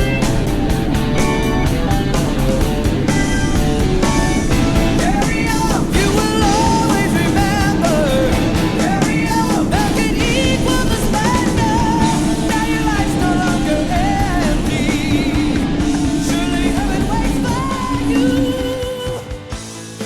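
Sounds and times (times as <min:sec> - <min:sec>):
rock music with singing: 0:00.0 - 0:20.0.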